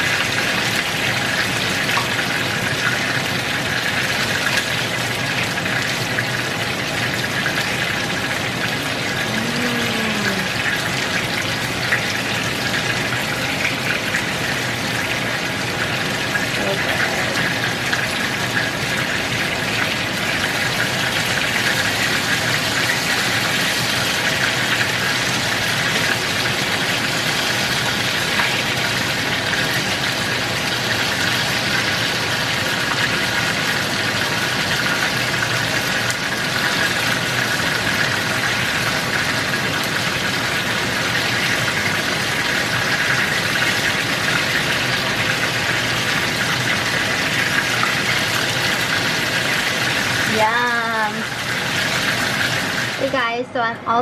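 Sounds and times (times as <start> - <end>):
hot oil sizzling and crackling: 0.0 - 54.0.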